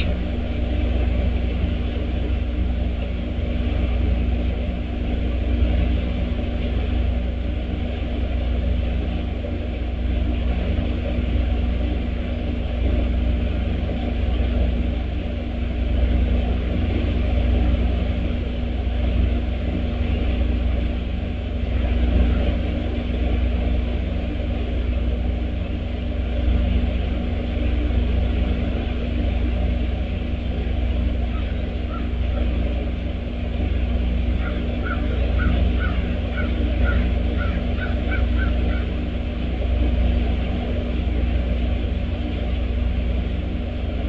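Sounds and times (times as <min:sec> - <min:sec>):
low outdoor background rumble: 0:00.0 - 0:44.0.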